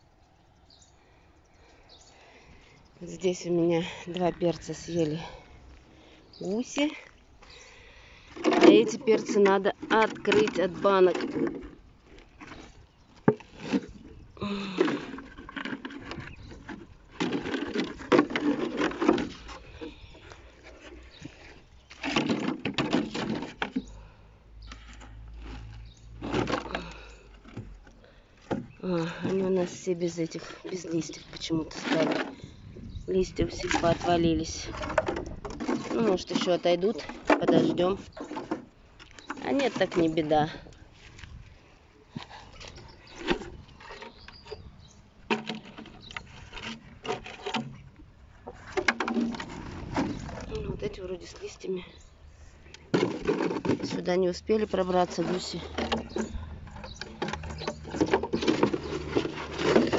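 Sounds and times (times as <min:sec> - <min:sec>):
plastic bottle scraping on soil: 0:02.3 - 0:59.9.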